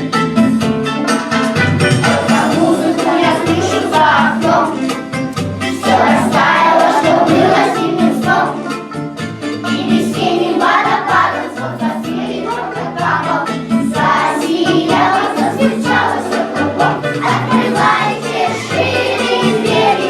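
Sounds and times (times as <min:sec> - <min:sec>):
choir singing children's song: 0:01.0 - 0:20.0.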